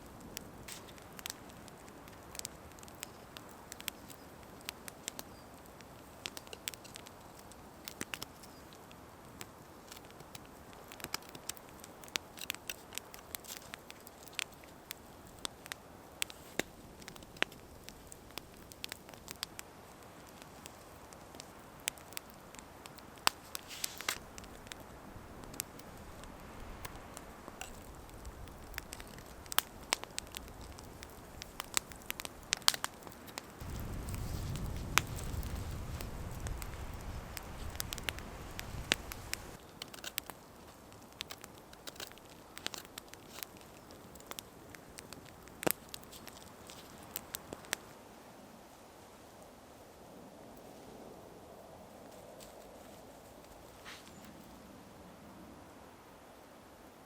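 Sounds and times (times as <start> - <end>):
campfire crackling: 0.0 - 57.0
faint steady hiss: 0.0 - 57.0.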